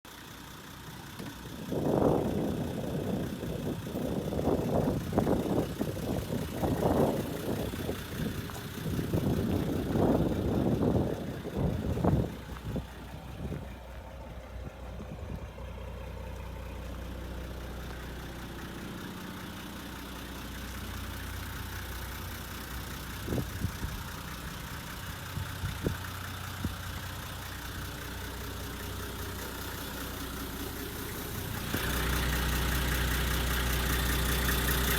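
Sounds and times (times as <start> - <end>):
diesel engine running: 0.1 - 34.9
engine knocks: 0.9 - 34.9.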